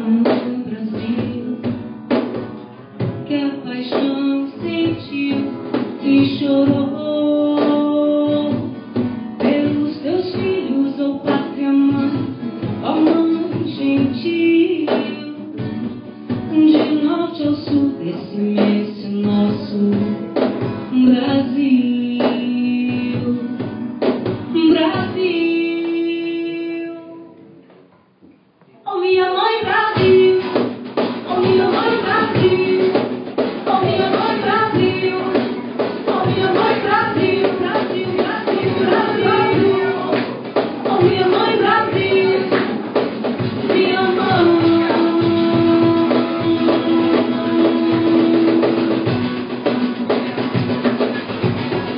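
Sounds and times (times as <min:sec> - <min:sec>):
woman singing: 0:00.0 - 0:02.2, 0:03.0 - 0:27.4, 0:28.9 - 0:49.1
cajon drumming: 0:00.0 - 0:26.2, 0:29.3 - 0:51.9
acoustic guitars: 0:00.0 - 0:51.9.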